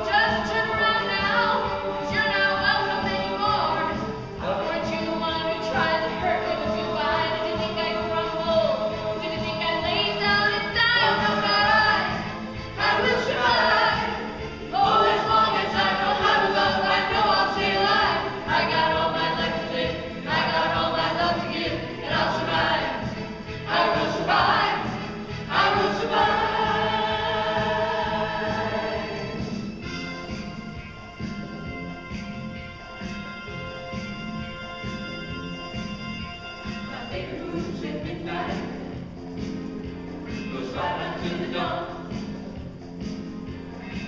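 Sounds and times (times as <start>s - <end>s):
pop song with group vocals: 0.0s - 30.8s, 34.0s - 44.0s.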